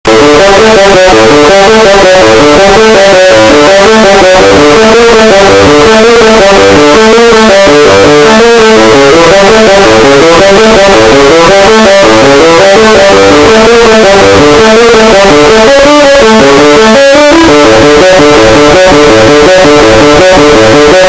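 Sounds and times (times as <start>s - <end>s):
loud electric guitar music: 0.0s - 21.0s.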